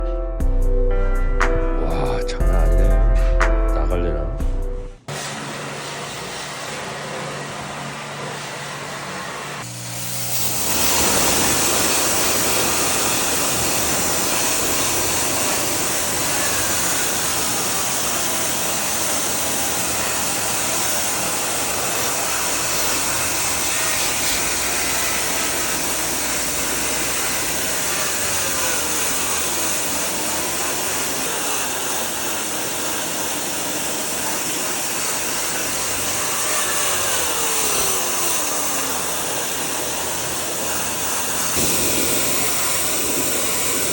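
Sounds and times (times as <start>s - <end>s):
high-pressure water spray hissing: 5.1s - 43.9s.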